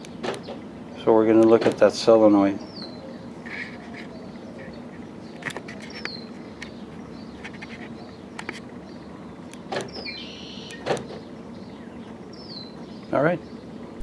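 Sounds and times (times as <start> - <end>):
bird chirping: 2.5 - 14.0.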